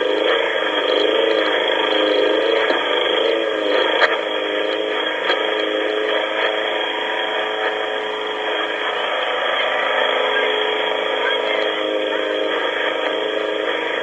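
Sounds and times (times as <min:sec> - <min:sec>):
muffled lawn mower engine: 0:00.0 - 0:14.0.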